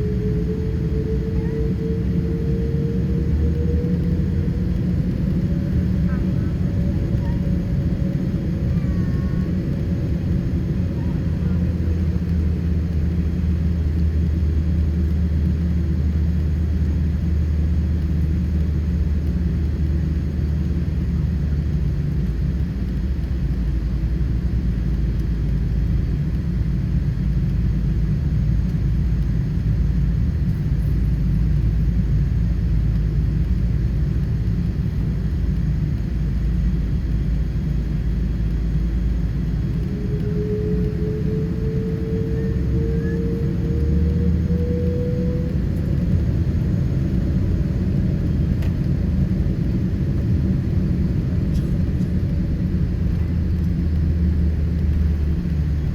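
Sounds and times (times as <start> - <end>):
jet cabin engine rumble: 0.0 - 55.9.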